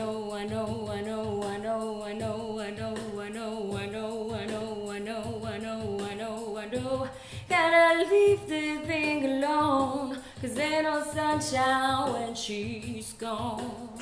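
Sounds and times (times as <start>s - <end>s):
woman singing wordless melody: 0.0s - 14.0s.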